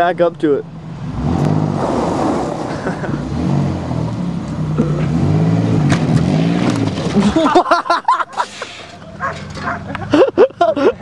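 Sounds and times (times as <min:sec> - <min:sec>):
car engine revving: 0:00.6 - 0:10.1.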